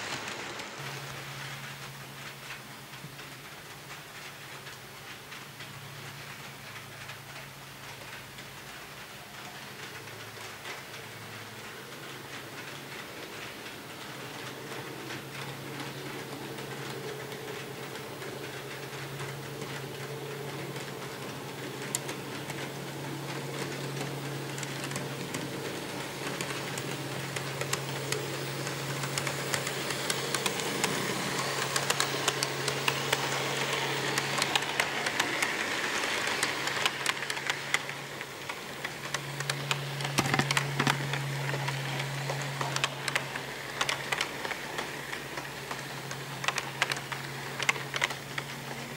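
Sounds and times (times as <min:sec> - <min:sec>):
wheels clicking over track joints: 0:00.0 - 0:48.9
model train motor hum: 0:06.2 - 0:48.9.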